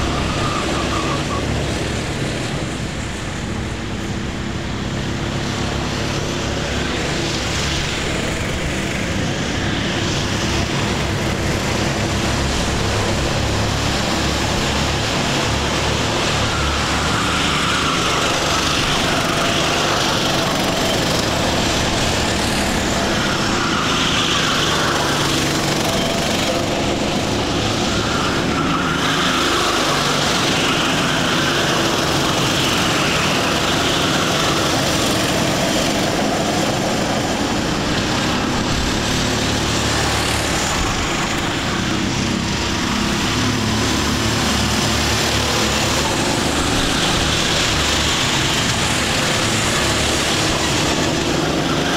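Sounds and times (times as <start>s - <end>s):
karts racing: 0.0s - 51.9s.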